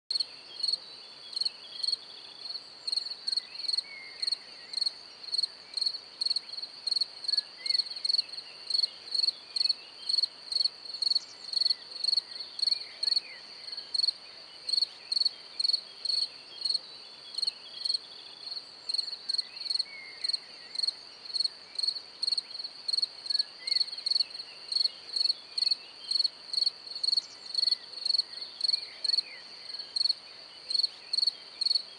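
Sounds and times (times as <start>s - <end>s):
insect chirping: 0.1s - 31.9s.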